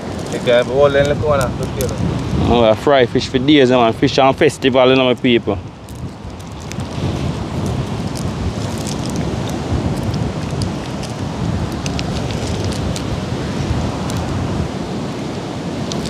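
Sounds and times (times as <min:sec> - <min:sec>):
rain: 0:00.0 - 0:02.8, 0:05.6 - 0:16.0
wind buffeting microphone: 0:00.0 - 0:16.0.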